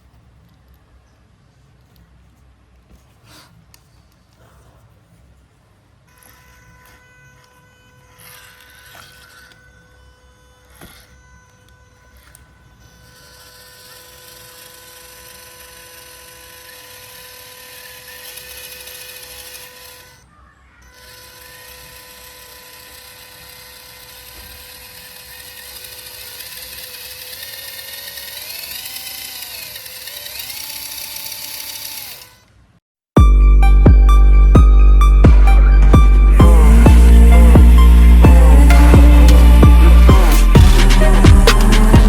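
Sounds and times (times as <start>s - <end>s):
small electric motor whine: 6.0s - 32.8s, 34.6s - 42.0s.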